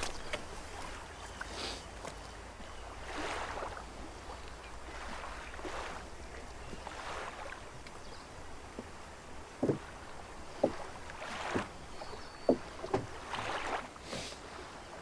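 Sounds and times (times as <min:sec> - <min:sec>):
sea water washing against rocks: 0:00.0 - 0:14.7
low rumble of wind: 0:00.0 - 0:15.0.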